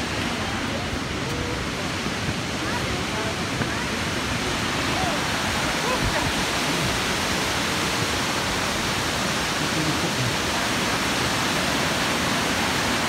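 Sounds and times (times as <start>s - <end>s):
waterfall rushing hiss: 0.0s - 13.0s.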